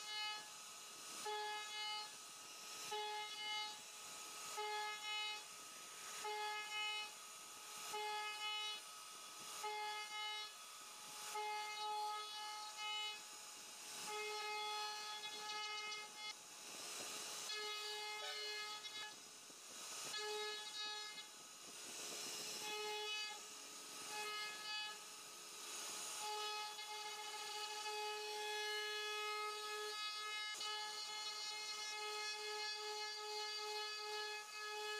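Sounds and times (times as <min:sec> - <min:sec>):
router spindle whine: 0:00.0 - 0:34.9.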